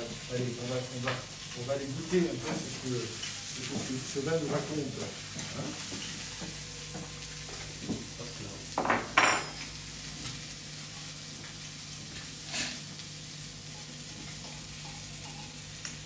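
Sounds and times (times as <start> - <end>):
fish frying in a pan: 0.0 - 16.0.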